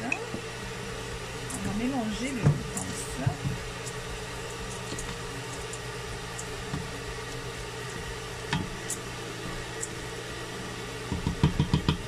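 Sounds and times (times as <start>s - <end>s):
constant hum: 0.0s - 12.0s
grains sizzling in butter: 0.4s - 11.5s.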